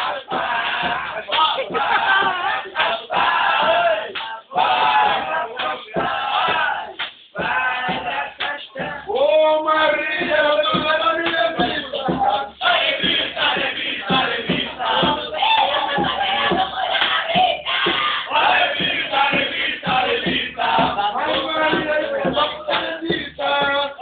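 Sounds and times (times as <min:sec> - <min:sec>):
men singing and shouting: 0:00.0 - 0:24.0.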